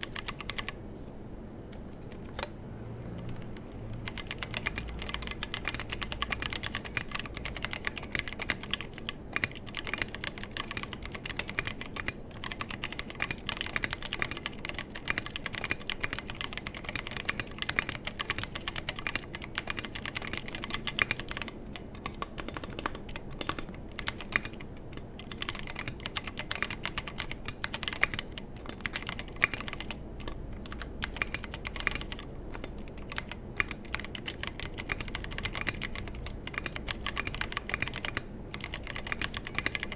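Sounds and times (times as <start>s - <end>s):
mechanical keyboard typing: 0.0s - 0.8s, 2.0s - 39.9s.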